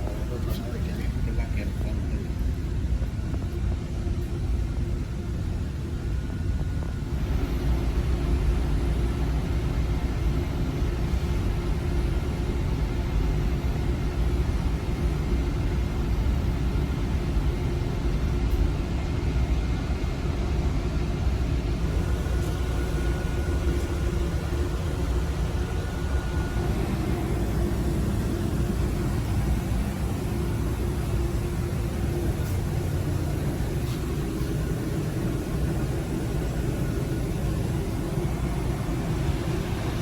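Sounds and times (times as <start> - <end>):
machine rumble and hum: 0.0 - 40.0.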